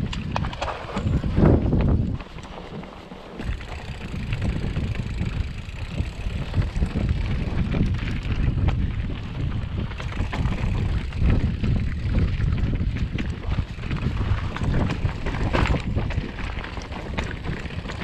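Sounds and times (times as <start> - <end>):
bike rattling: 0.0 - 18.0
wind rumble on microphone: 0.0 - 18.0.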